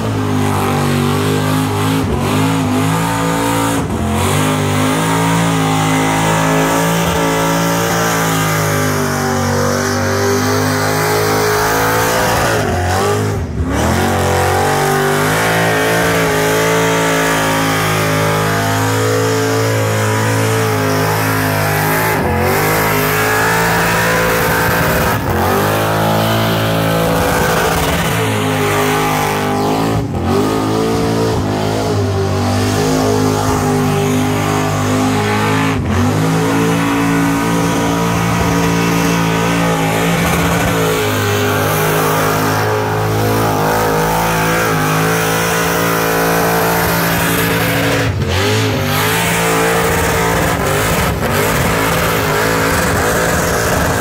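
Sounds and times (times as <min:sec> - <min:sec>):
car engine revving high: 0:00.0 - 0:54.0.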